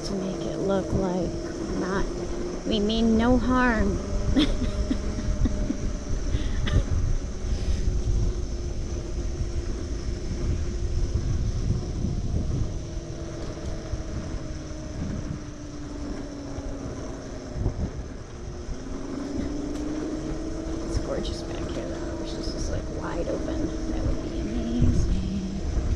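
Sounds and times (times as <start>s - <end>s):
electric moped motor whining: 0.0s - 25.9s
wind rumble on microphone: 0.0s - 25.9s.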